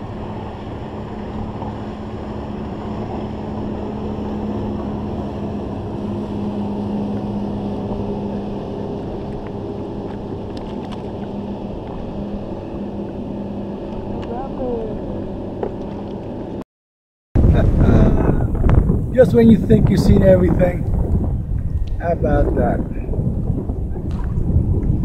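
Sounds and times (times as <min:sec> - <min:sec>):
motorboat engine droning: 0:00.0 - 0:16.6, 0:17.4 - 0:25.0
water noise: 0:00.0 - 0:16.6, 0:17.4 - 0:25.0
wind: 0:00.0 - 0:16.6, 0:17.4 - 0:25.0.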